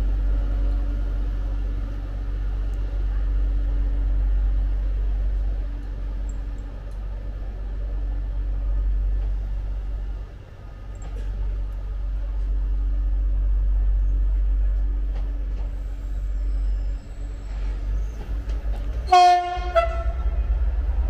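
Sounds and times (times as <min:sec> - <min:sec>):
train low rumble: 0:00.0 - 0:21.0.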